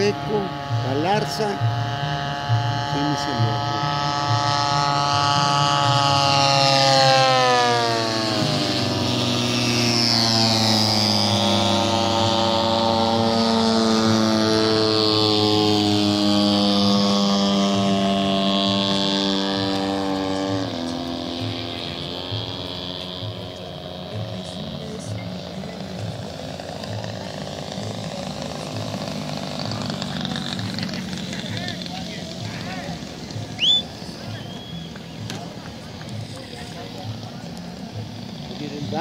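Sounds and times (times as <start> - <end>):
model airplane engines: 0.0 - 39.0.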